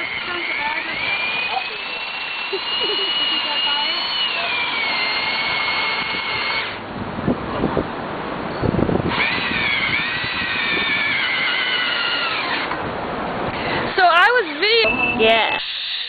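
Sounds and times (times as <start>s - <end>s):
power drill boring into concrete: 0.0s - 6.8s, 9.1s - 12.8s, 13.5s - 16.0s.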